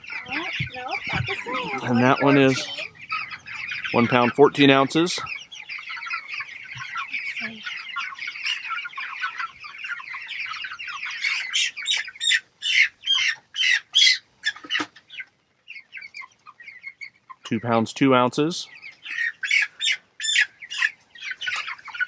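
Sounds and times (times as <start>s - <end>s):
chicks peeping and cheeping: 0.0s - 22.0s
loud chick calls: 0.0s - 22.0s.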